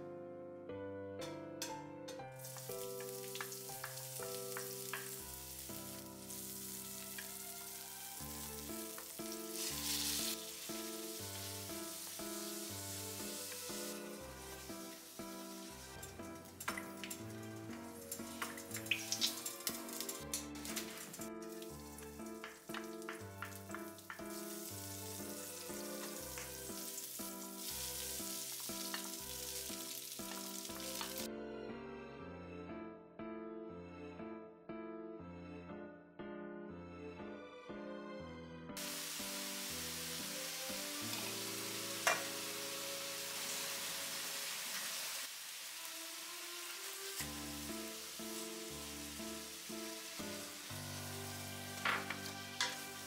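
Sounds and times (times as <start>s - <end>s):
soft background music: 0.0s - 45.1s, 45.8s - 53.0s
garlic sizzling in hot oil: 2.3s - 31.3s, 38.8s - 53.0s.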